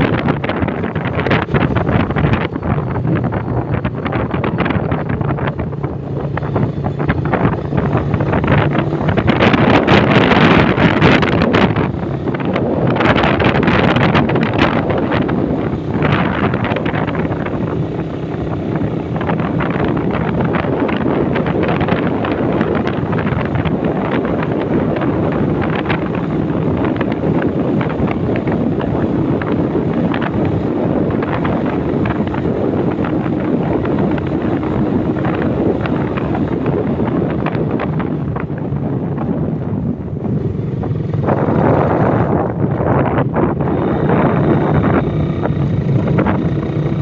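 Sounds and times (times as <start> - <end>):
motorcycle engine drone: 0.0 - 47.0
wind buffeting on microphone: 0.0 - 47.0.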